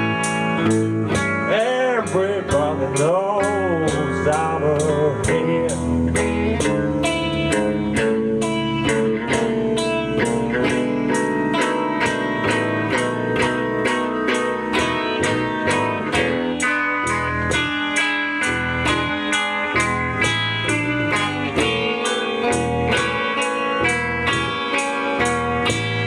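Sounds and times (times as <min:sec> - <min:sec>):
blues guitar playing: 0:00.0 - 0:26.0.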